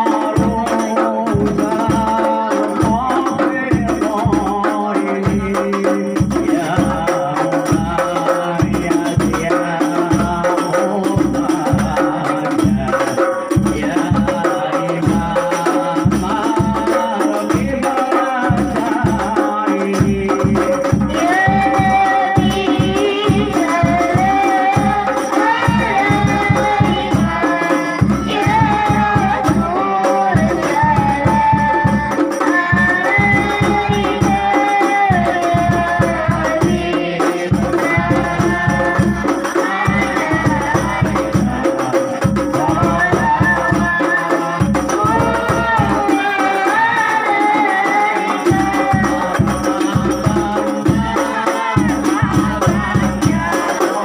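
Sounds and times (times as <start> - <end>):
devotional singing: 0.0 - 54.0
frame drums: 0.0 - 54.0
jingling tambourine percussion: 0.0 - 54.0.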